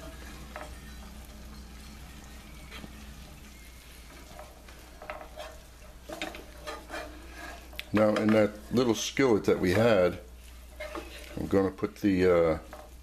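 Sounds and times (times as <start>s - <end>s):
vegetables sizzling in a pan: 0.0s - 13.0s
wooden spatula scraping: 0.0s - 13.0s.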